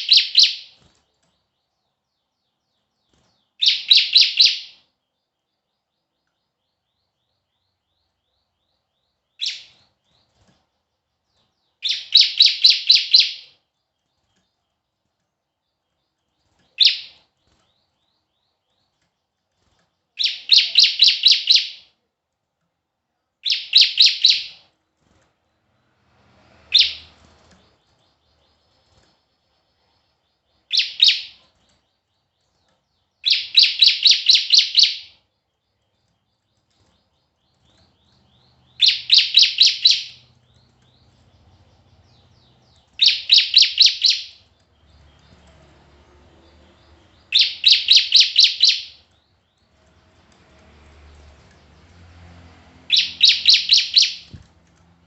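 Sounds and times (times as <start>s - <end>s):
songbird singing: 0.0s - 22.0s, 23.3s - 24.7s, 25.5s - 55.0s.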